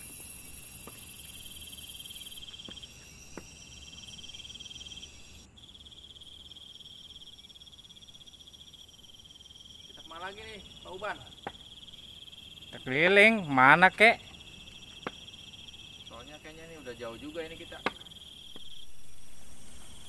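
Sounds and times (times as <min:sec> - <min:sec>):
crickets chirring: 0:00.0 - 0:20.0
high shrill insect: 0:00.0 - 0:20.0.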